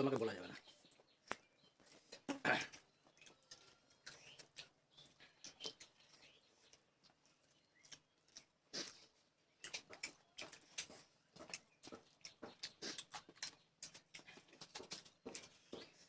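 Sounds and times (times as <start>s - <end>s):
chewing food: 0.5s - 16.0s.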